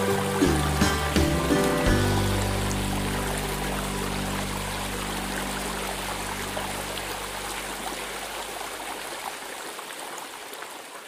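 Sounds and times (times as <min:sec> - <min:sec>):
low held music tones: 0:00.0 - 0:09.1
creek water running over rocks: 0:00.0 - 0:11.0.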